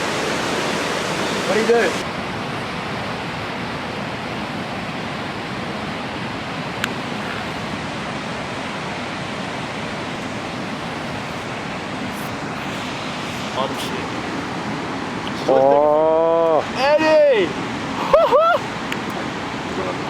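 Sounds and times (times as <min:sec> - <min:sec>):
ocean surf rushing: 0:00.0 - 0:20.0.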